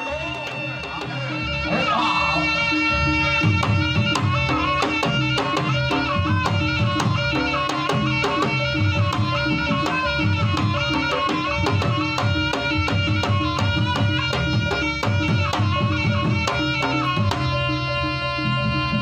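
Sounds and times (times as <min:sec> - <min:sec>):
reed pipe melody: 0:00.0 - 0:19.0.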